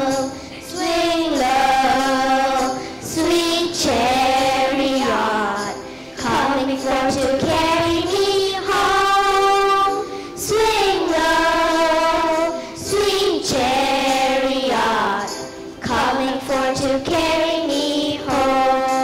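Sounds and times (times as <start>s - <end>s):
children singing: 0.0s - 19.0s.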